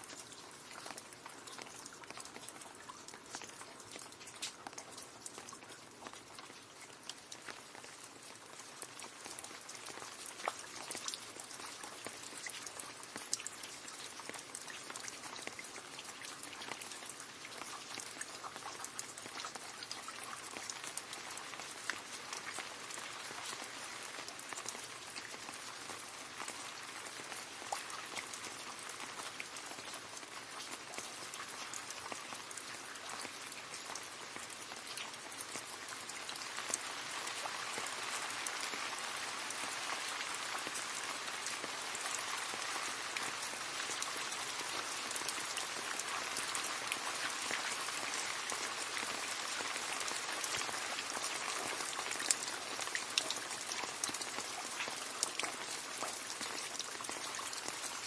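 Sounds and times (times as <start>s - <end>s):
rain splashing into puddle: 0.0s - 58.0s.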